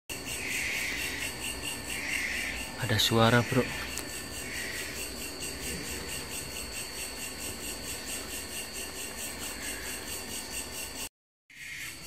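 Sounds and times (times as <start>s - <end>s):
low steady hum: 0.1s - 11.1s
crickets chirping: 0.1s - 12.0s.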